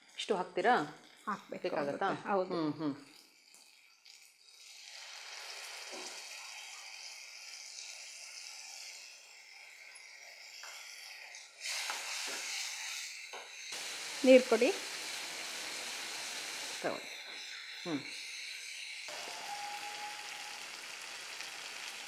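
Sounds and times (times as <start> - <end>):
liquid sizzling in hot pan: 3.0 - 22.0.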